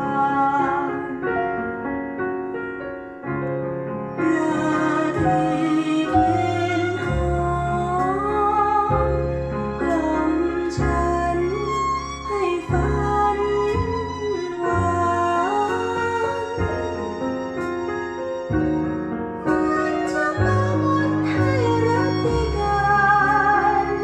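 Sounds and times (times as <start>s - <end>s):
piano: 0.0s - 24.0s
deep bass line: 4.3s - 24.0s.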